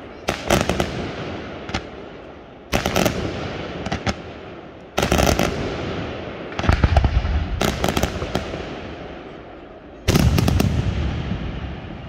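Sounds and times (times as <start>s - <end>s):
crackling firework reports: 0.0s - 12.0s.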